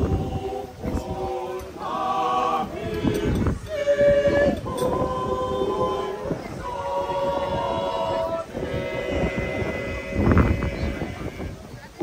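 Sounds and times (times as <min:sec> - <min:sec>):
group singing held notes: 0:00.0 - 0:11.6.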